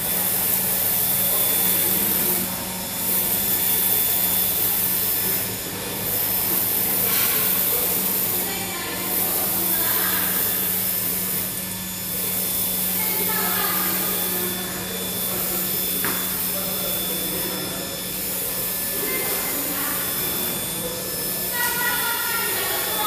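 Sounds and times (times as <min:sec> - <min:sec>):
printer fans whirring: 0:00.0 - 0:23.0.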